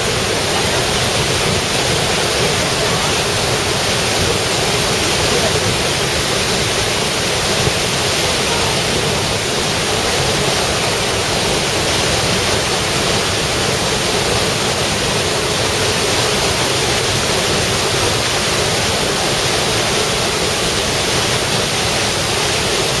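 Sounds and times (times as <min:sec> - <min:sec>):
waterfall roar: 0:00.0 - 0:23.0.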